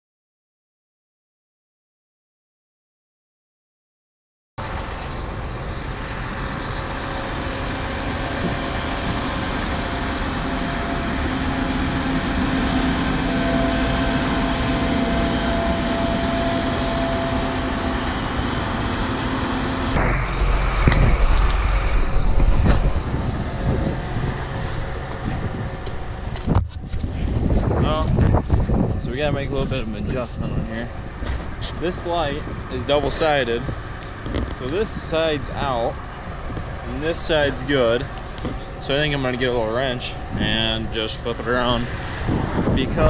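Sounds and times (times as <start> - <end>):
farm machine running: 4.6 - 43.0
wind rumble on microphone: 4.6 - 43.0.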